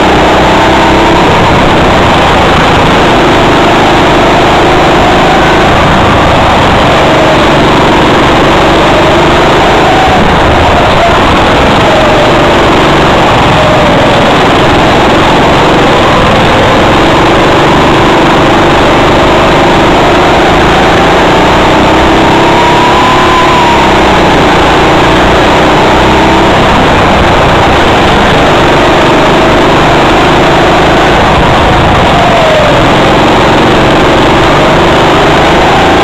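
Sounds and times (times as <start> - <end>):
go-kart engines droning: 0.0 - 36.0.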